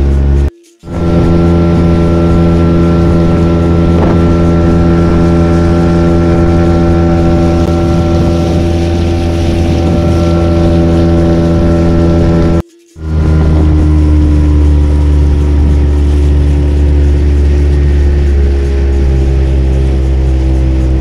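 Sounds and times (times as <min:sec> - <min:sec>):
boat motor running: 0:00.0 - 0:21.0
water noise: 0:00.0 - 0:21.0
wind on microphone: 0:00.0 - 0:21.0.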